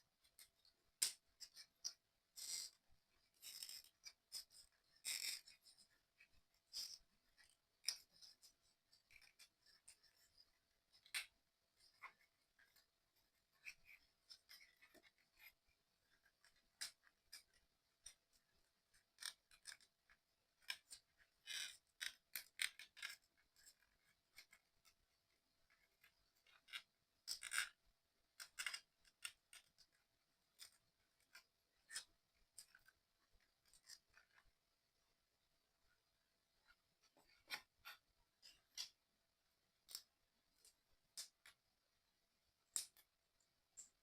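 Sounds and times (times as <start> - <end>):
small plastic parts clicking: 0.2 - 25.0, 25.6 - 34.5, 39.8 - 41.6, 42.6 - 43.1.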